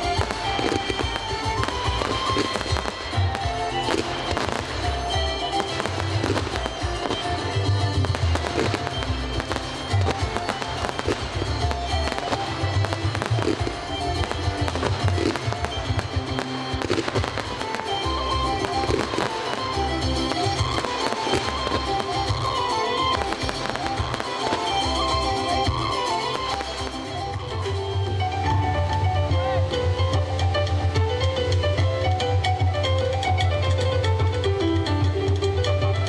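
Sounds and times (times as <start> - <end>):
fireworks bangs and crackling: 0.0 - 31.8
music playing: 0.0 - 36.0.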